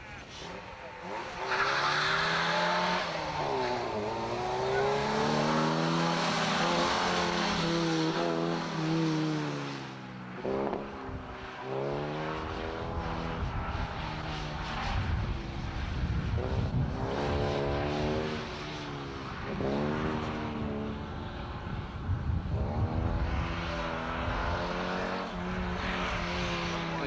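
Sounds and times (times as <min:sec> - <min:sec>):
car engine revving hard: 0:00.3 - 0:13.5, 0:16.3 - 0:21.2, 0:22.5 - 0:27.0.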